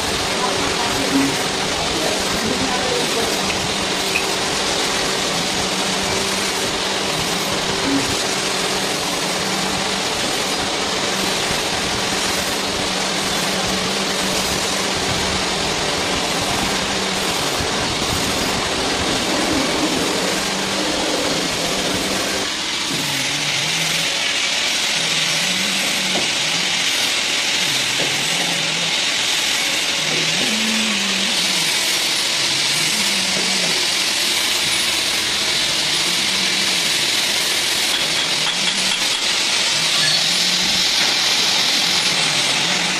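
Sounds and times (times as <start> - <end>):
coolant spray hiss: 0.0 - 42.9
lathe machine hum: 0.0 - 42.9.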